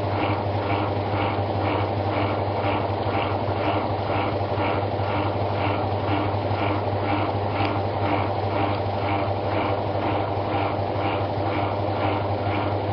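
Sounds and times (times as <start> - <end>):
washing machine motor humming: 0.0 - 12.9.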